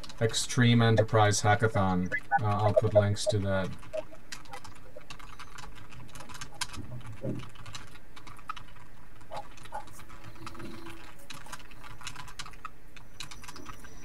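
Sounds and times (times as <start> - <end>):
keyboard typing: 0.0 - 14.0.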